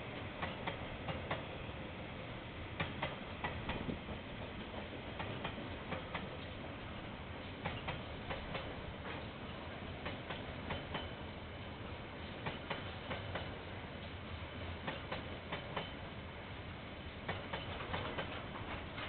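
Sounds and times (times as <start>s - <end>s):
low train rumble: 0.0s - 19.0s
train wheels clicking over rail joints: 0.1s - 1.6s, 2.7s - 11.4s, 12.1s - 14.2s, 14.8s - 16.2s, 17.1s - 19.0s.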